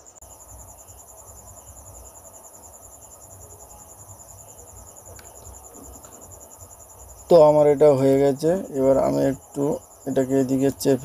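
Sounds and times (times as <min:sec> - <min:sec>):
cricket chirping: 0:00.0 - 0:11.0
faint low hum: 0:00.0 - 0:11.0.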